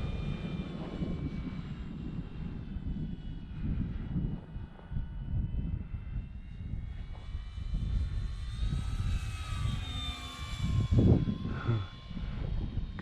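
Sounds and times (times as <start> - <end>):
model plane motor whine: 0.0 - 13.0
wind rumbling on microphone: 0.0 - 13.0.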